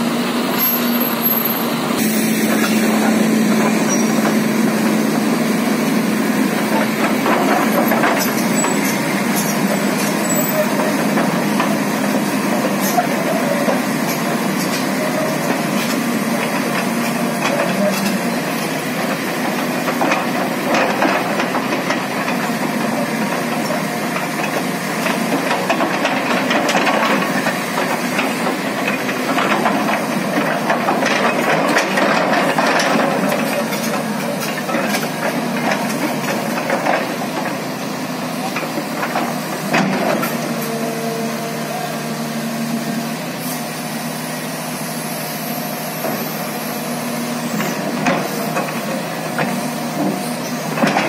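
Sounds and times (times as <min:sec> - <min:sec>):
excavator diesel engine under load: 0:00.0 - 0:51.0.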